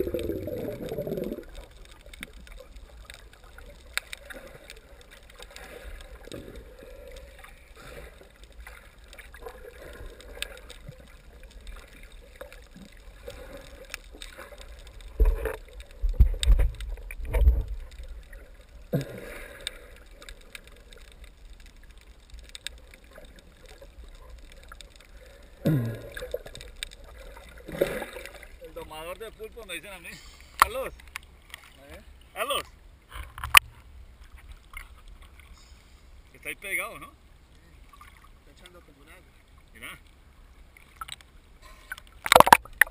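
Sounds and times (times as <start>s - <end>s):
underwater sloshing and gurgling: 0.0s - 42.9s.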